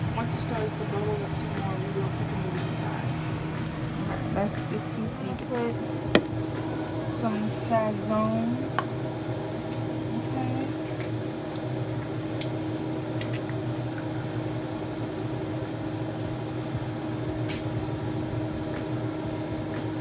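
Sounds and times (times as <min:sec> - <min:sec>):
appliance fan humming: 0:00.0 - 0:20.0.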